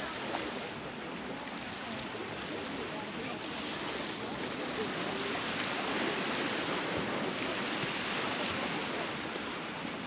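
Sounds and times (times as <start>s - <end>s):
waves breaking on shore: 0.0s - 10.0s.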